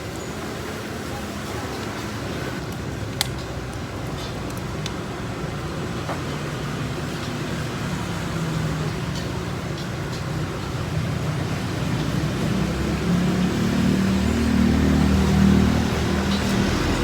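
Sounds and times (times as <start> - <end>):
road traffic noise: 0.0 - 17.0
vehicle engine running: 1.0 - 17.0.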